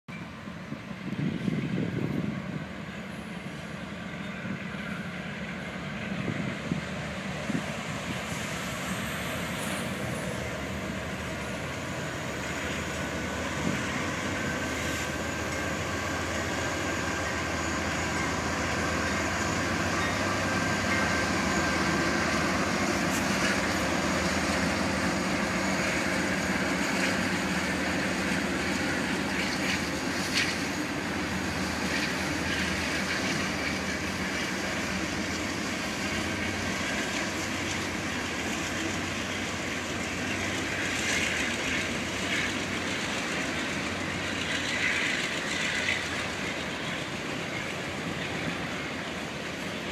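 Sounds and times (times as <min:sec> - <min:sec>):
diesel locomotives running by: 0:00.1 - 0:49.9
freight cars rolling on rails: 0:00.1 - 0:49.9.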